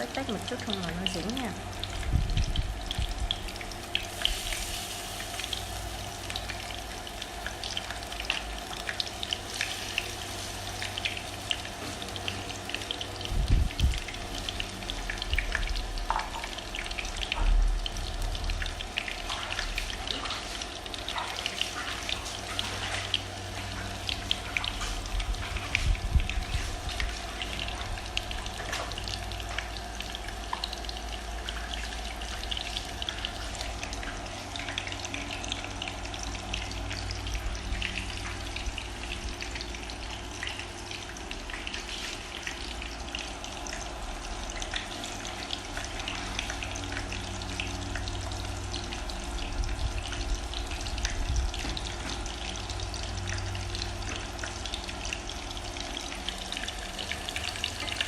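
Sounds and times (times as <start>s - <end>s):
shrimp frying in hot oil: 0.0s - 58.0s.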